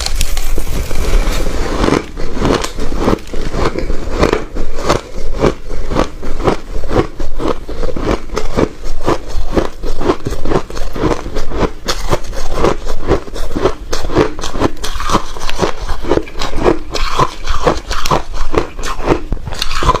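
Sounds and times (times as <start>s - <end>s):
crisp crunching: 0.0s - 20.0s.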